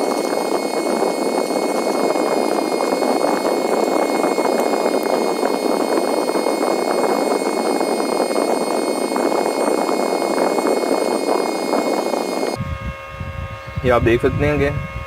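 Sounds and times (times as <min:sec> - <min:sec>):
small blower rushing: 0:00.0 - 0:15.0.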